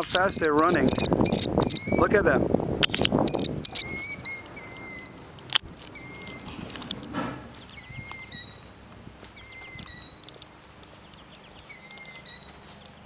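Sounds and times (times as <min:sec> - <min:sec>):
killdeer calling: 0:00.0 - 0:06.6, 0:07.5 - 0:10.4, 0:11.0 - 0:13.0.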